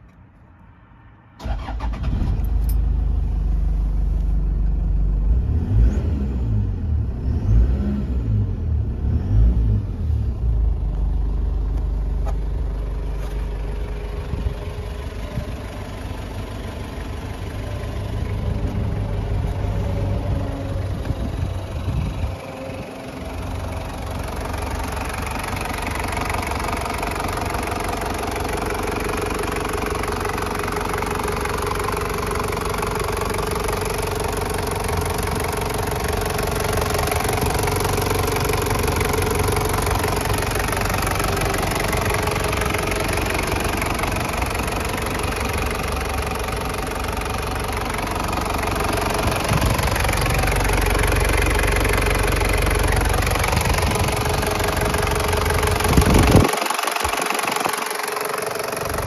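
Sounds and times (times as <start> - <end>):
diesel engine idling: 1.4 - 5.8, 9.8 - 59.0.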